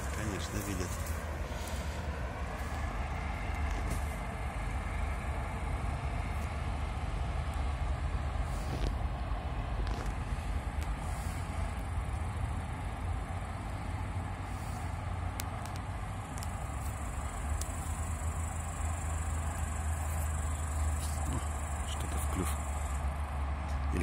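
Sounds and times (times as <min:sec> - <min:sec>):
distant road traffic rumble: 0:00.0 - 0:24.0.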